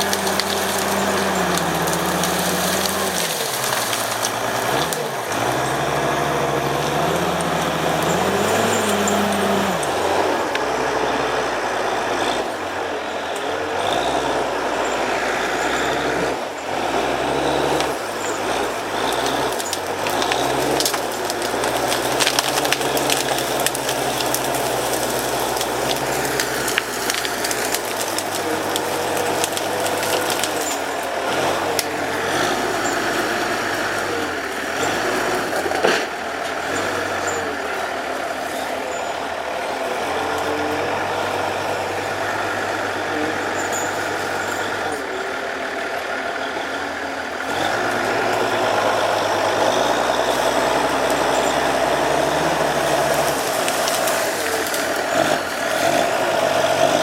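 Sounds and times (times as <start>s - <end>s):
heavy diesel machinery working: 0.0s - 57.0s.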